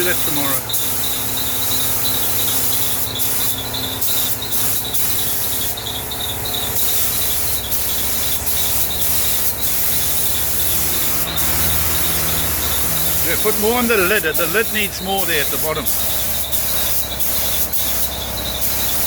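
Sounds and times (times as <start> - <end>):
spray gun hissing: 0.0 - 19.0.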